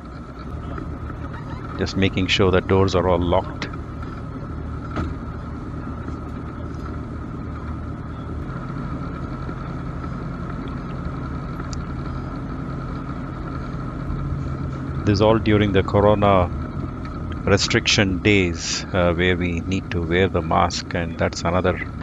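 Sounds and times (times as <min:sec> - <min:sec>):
propeller plane engine running: 0:00.0 - 0:22.0.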